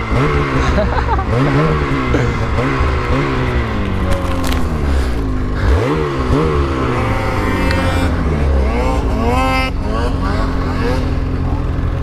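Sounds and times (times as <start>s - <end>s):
snowmobile engines revving: 0.0s - 12.0s.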